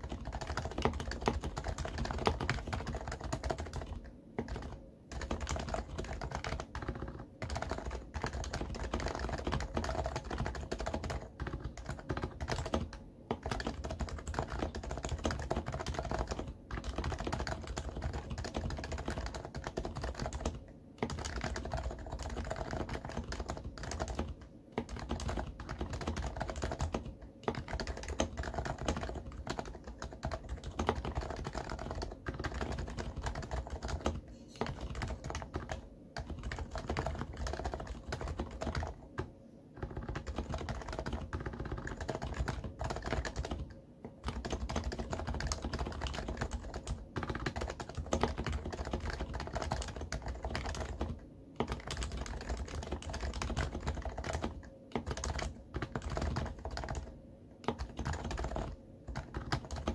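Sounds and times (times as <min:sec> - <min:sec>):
fast keyboard typing: 0:00.0 - 0:59.9.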